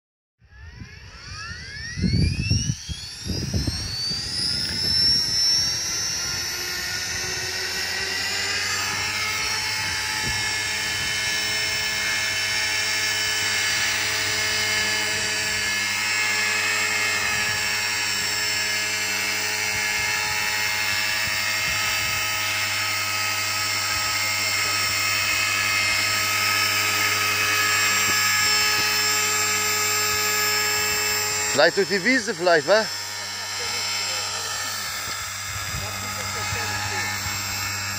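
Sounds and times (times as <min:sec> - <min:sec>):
helicopter motor and rotor whine: 0:00.4 - 0:37.9.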